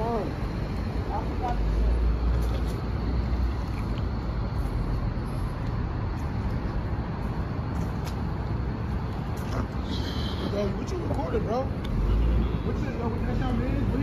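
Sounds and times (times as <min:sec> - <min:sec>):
street noise rumble: 0:00.0 - 0:14.0
vehicle engines idling: 0:00.0 - 0:14.0.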